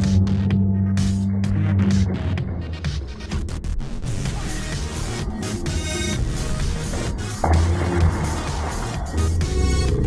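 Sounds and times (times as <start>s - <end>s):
music: 0.0s - 10.0s.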